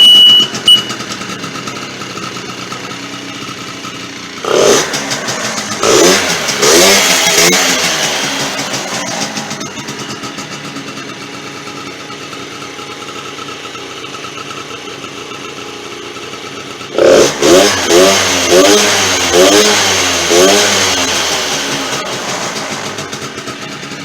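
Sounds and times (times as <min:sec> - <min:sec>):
quad engine idling and revving: 0:00.0 - 0:24.0.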